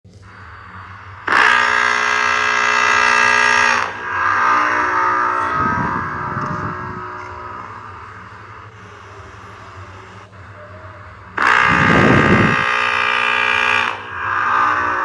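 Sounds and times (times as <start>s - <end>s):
distorted horn blast: 0.1s - 15.0s
softer horn tone: 0.2s - 15.0s.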